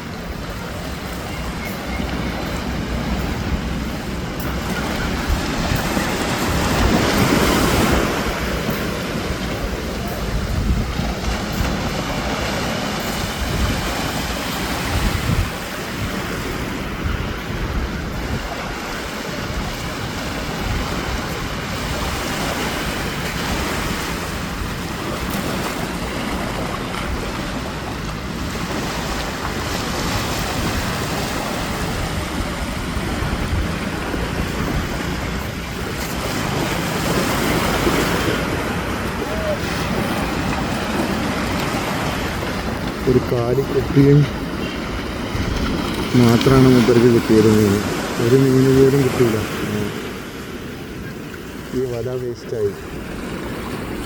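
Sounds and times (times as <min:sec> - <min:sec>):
wind rumbling on microphone: 0:00.0 - 0:51.8
sea surf washing onto shore: 0:00.0 - 0:54.0.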